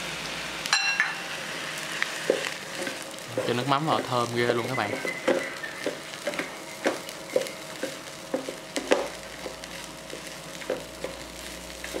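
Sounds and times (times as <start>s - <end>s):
fried rice sizzling in a pan: 0.0s - 12.0s.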